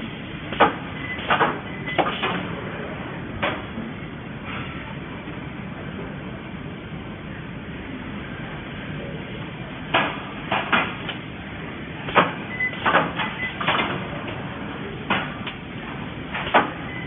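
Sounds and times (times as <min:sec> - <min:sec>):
mechanical background noise: 0:00.0 - 0:17.0.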